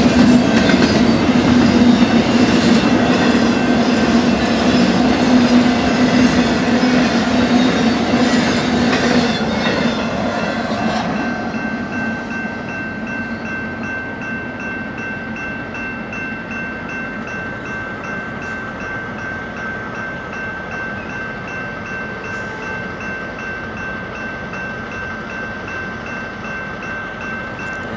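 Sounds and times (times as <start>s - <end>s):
crossing warning bell ringing: 0.0s - 27.9s
train rolling over rails: 0.0s - 27.9s.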